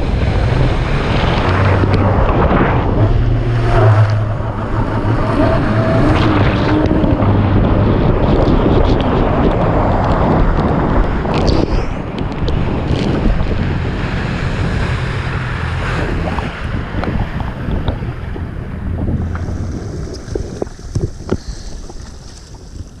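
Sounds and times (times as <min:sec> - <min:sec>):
watercraft engine running: 0:00.0 - 0:23.0
wind buffeting microphone: 0:00.0 - 0:23.0.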